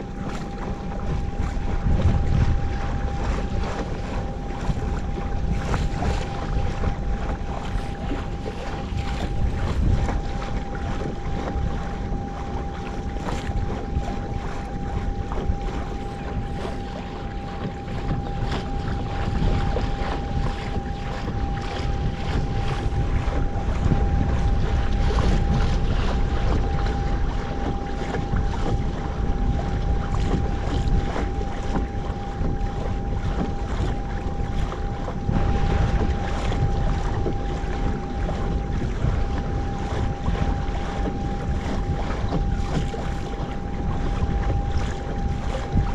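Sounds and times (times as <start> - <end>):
thin steady whine: 0.0 - 45.9
water splashing against kayak: 0.0 - 45.9
wind buffeting microphone: 0.0 - 45.9.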